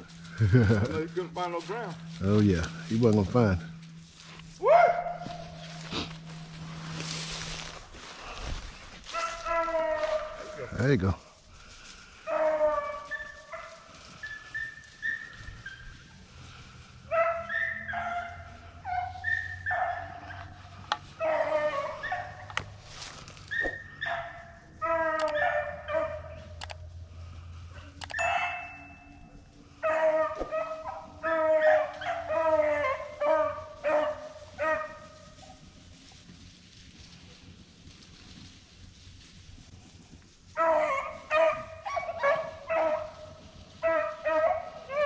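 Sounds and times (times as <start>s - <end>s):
dogs baying and barking: 0.0s - 11.0s, 11.7s - 36.5s, 40.4s - 45.0s.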